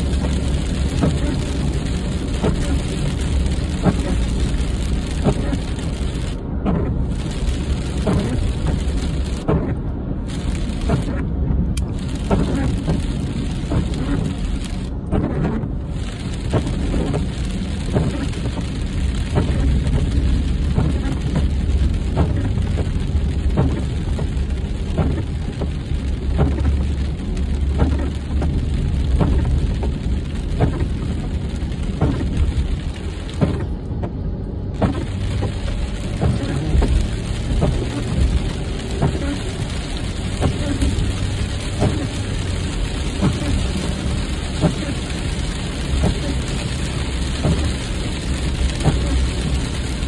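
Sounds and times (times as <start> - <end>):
raindrops tapping on car: 0.0 - 50.0
road and engine rumble: 0.0 - 50.0.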